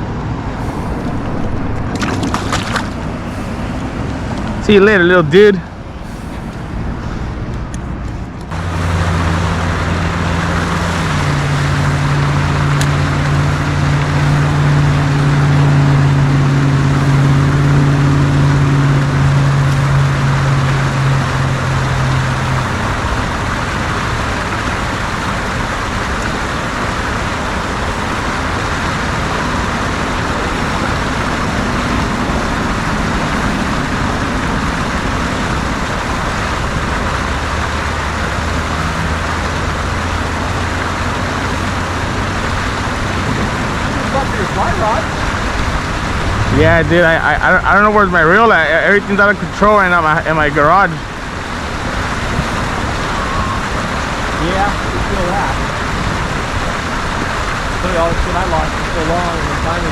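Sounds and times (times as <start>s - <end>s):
traffic noise: 0.0s - 59.9s
vehicle engine hum: 0.0s - 59.9s.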